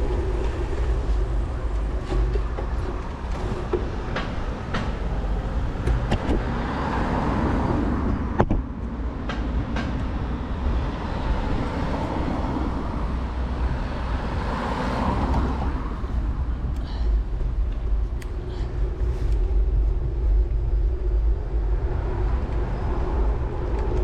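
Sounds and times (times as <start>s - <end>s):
road traffic rumble: 0.0s - 24.0s
vehicles passing: 0.0s - 24.0s.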